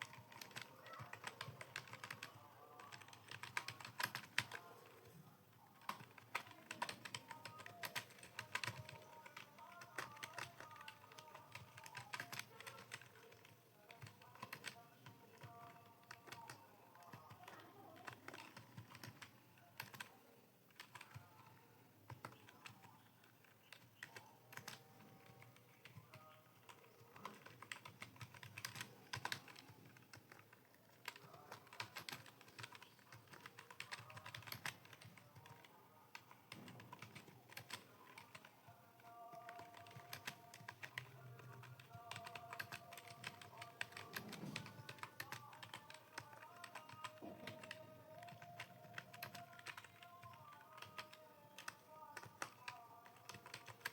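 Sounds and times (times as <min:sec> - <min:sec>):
keyboard typing: 0:00.0 - 0:53.9.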